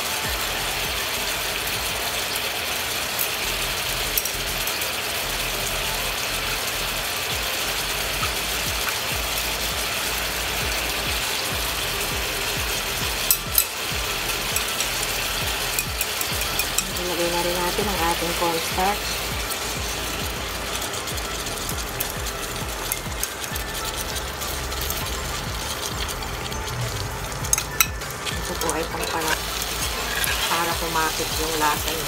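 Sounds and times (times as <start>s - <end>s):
sauce sizzling in a skillet: 0.0s - 32.0s.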